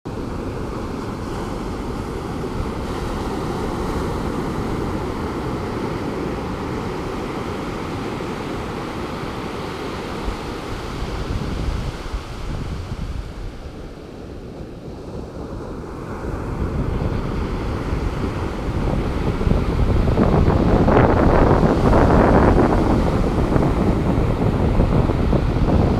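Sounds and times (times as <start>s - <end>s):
waves breaking: 0.1s - 25.9s
wind on microphone: 0.1s - 25.9s.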